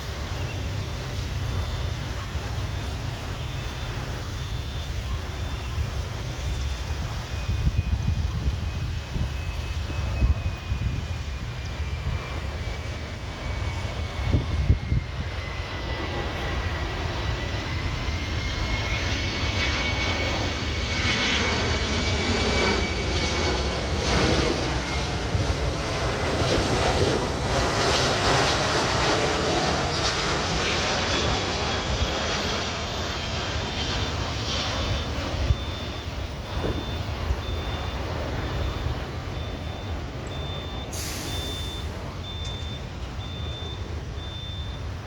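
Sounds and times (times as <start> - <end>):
jet engine rumble with whine: 0.0 - 45.0.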